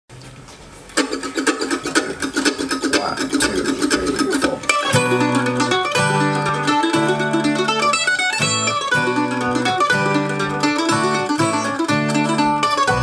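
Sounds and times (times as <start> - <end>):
bass plucked notes: 1.0 - 13.0
guitar plucked notes: 1.0 - 13.0
mandolin picking fast: 1.0 - 13.0.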